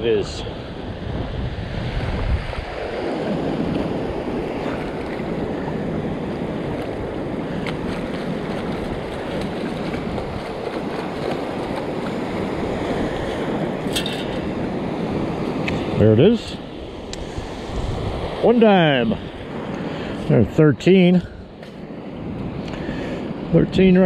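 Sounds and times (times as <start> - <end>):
wind buffeting microphone: 0.0 - 20.5, 21.1 - 24.0
surf washing over shallows: 0.0 - 24.0.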